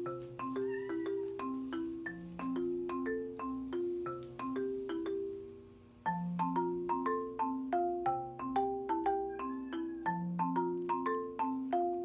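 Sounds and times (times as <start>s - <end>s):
marimba-like melody: 0.0s - 12.0s.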